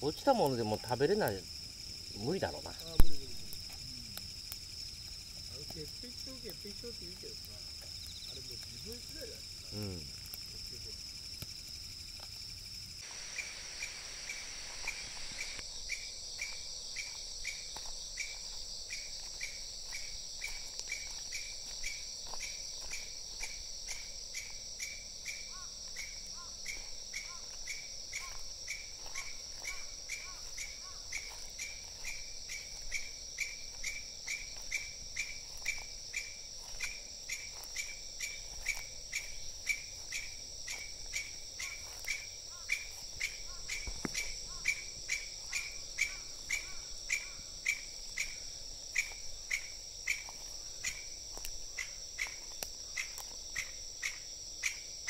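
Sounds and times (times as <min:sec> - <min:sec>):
insect chirping: 0:00.0 - 0:55.0
insects buzzing: 0:00.0 - 0:55.0.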